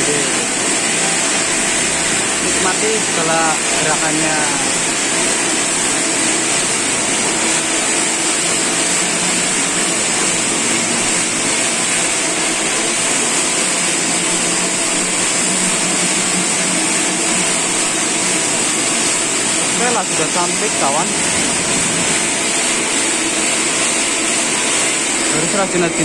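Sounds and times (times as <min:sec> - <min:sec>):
welding arc hiss: 0:00.0 - 0:26.0.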